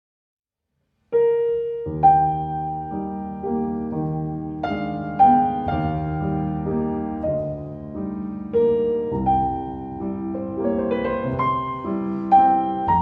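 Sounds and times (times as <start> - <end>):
slow piano melody: 1.1 - 13.0.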